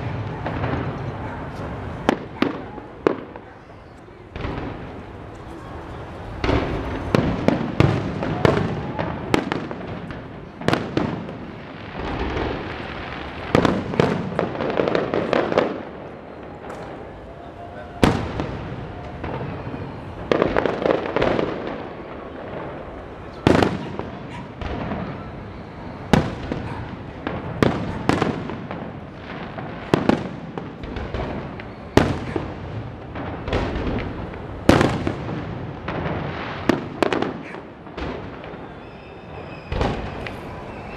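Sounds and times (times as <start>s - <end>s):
din of smaller firework bursts: 0.0s - 40.9s
fireworks booming overhead: 0.0s - 40.9s.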